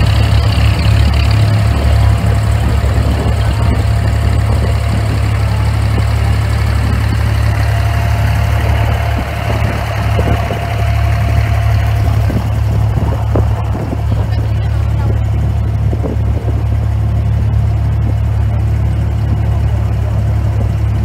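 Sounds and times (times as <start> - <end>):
boat diesel engine droning: 0.0 - 21.0
thin steady whine: 0.0 - 21.0.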